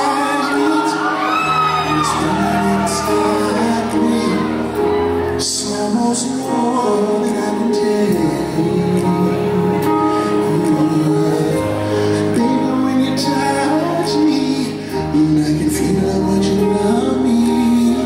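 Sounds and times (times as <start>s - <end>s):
man singing ballad: 0.0s - 18.0s.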